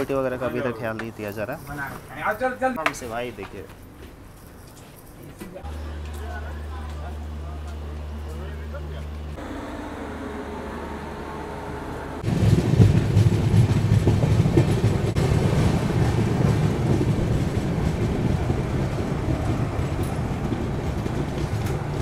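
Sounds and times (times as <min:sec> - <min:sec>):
train rumble with wheel clatter: 0:00.0 - 0:22.0.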